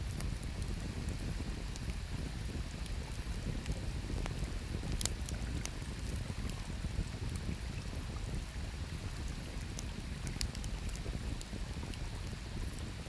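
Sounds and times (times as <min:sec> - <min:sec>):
campfire crackling and popping: 0:00.1 - 0:13.0.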